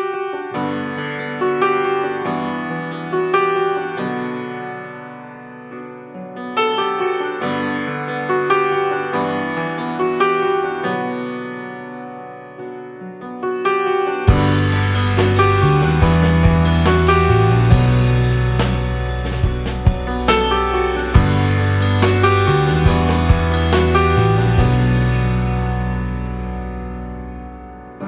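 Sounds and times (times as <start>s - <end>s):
solo piano chords: 0.0s - 28.0s.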